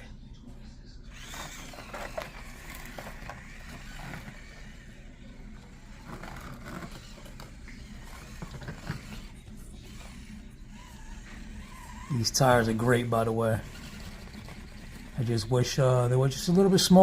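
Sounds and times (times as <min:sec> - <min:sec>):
rc truck motor whine: 0:01.0 - 0:17.0.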